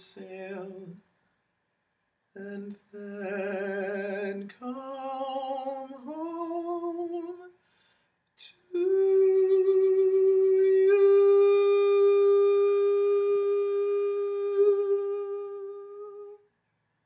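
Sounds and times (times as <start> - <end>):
person singing a cappella: 0.0 - 1.1, 2.4 - 7.6, 8.4 - 16.4.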